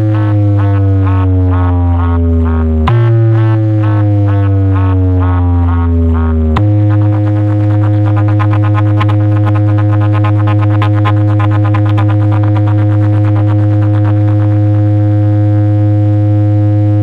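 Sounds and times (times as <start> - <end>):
fast ticking rhythm: 0.0 - 14.7
synthesizer bass drone: 0.0 - 17.0.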